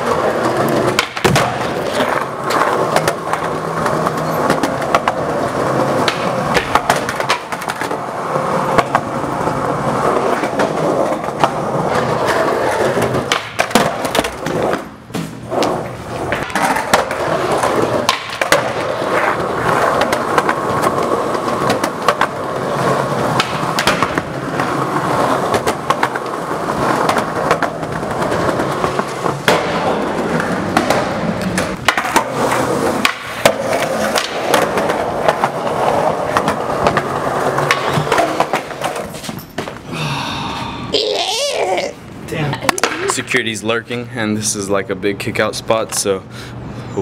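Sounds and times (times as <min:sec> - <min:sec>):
skateboard clacking: 0:00.0 - 0:39.9, 0:42.6 - 0:43.4
skateboard wheels rolling on concrete: 0:00.0 - 0:47.0.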